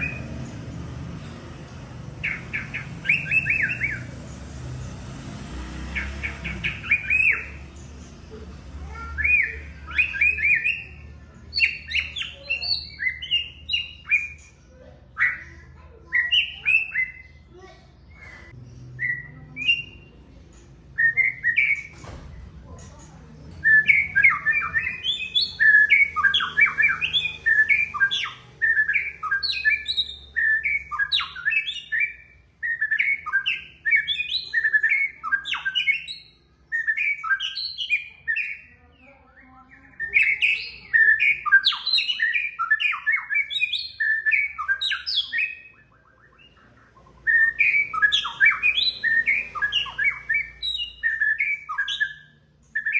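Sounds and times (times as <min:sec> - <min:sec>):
bird singing chirps and whistles: 0:00.0 - 0:00.7, 0:02.2 - 0:04.2, 0:05.9 - 0:07.8, 0:09.0 - 0:17.5, 0:18.1 - 0:20.2, 0:20.9 - 0:22.1, 0:23.5 - 0:38.8, 0:39.4 - 0:52.9.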